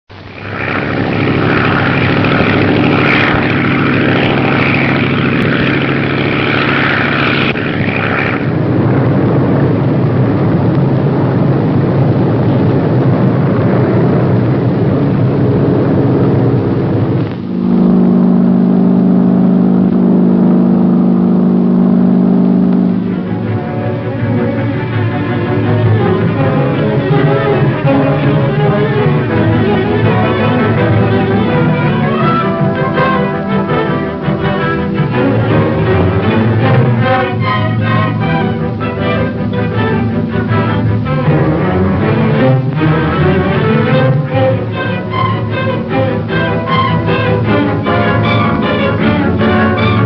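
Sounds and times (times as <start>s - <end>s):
propeller airplane engines droning: 0.0s - 50.0s
loud held music chords: 0.1s - 50.0s.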